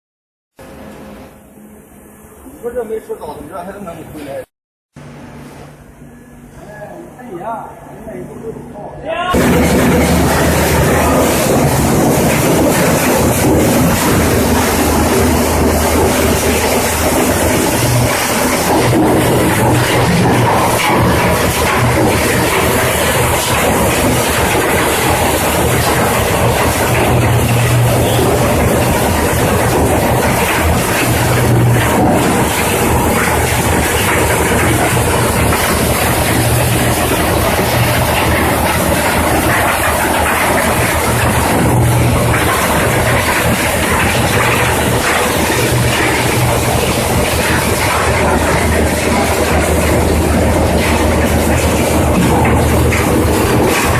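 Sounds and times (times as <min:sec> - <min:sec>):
machine low drone: 0:05.0 - 0:53.9
metal clattering in crusher: 0:09.4 - 0:53.9.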